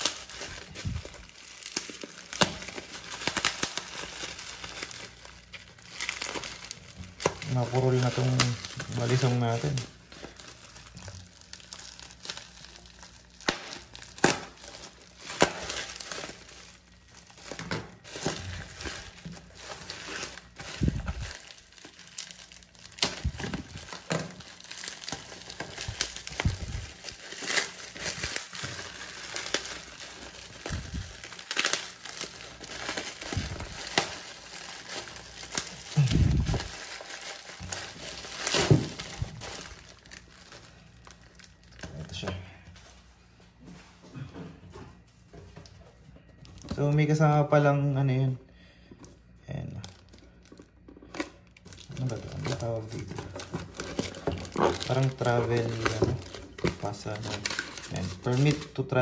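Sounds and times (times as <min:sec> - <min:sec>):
plastic crinkling and crackling: 0:00.0 - 0:43.0, 0:45.0 - 0:59.0.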